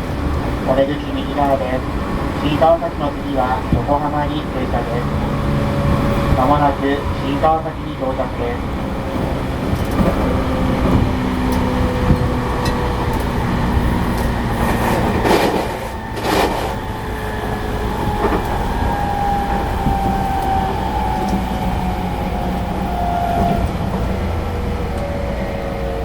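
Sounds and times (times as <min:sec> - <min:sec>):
train rumble and wheel noise: 0:00.0 - 0:26.0.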